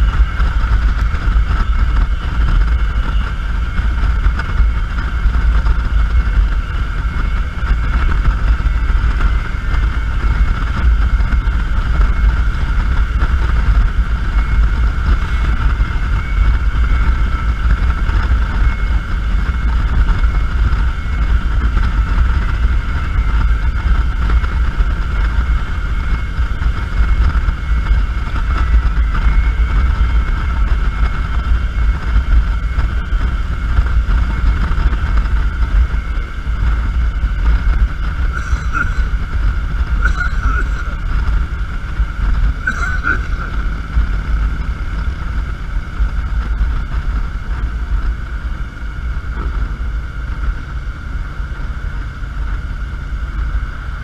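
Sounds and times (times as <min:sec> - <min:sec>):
motorcycle engine drone: 0:00.0 - 0:54.0
wind buffeting microphone: 0:00.0 - 0:54.0.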